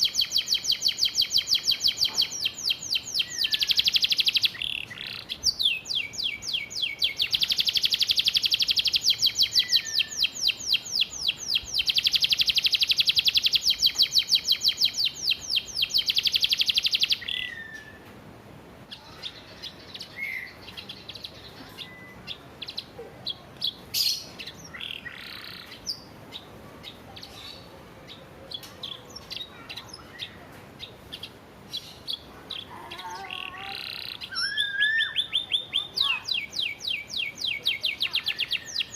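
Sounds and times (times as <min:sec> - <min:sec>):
canary singing: 0:00.0 - 0:18.1, 0:18.9 - 0:38.9.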